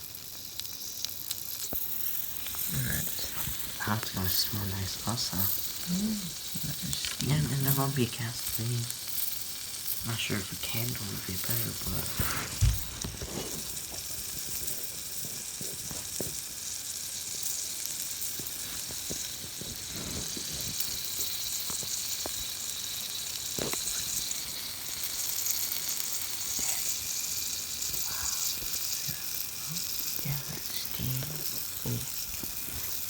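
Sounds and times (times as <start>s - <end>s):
mushrooms sizzling in metal pan: 0.0s - 33.0s.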